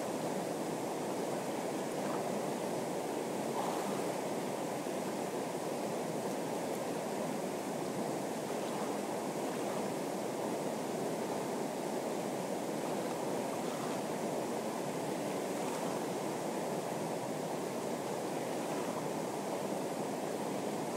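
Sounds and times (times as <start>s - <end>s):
river rushing over rapids: 0.0s - 20.9s.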